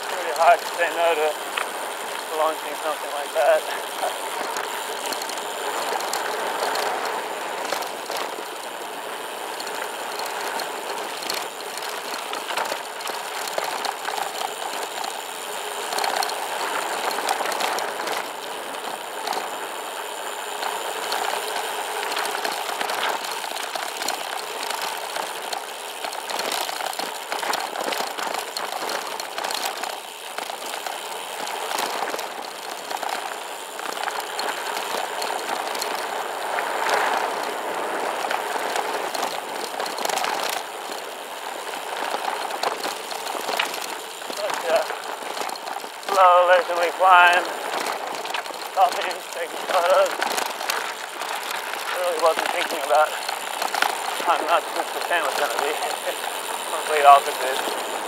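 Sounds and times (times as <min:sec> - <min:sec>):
bike rattling: 0:00.0 - 0:58.0
bike tyres crunching on gravel: 0:00.0 - 0:58.0.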